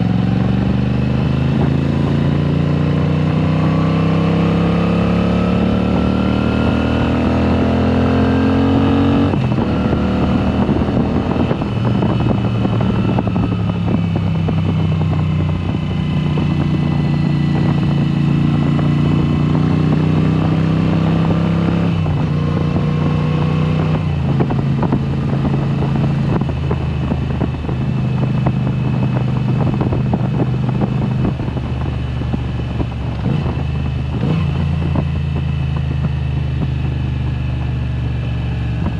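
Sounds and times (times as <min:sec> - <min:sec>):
loud motorcycle engine revving: 0:00.0 - 0:38.9.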